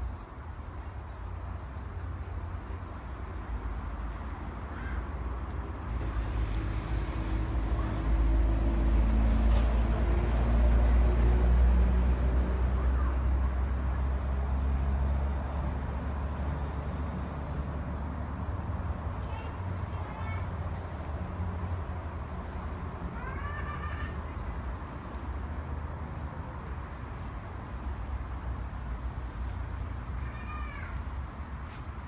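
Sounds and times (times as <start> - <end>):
motor vehicle passing by: 5.9 - 32.0.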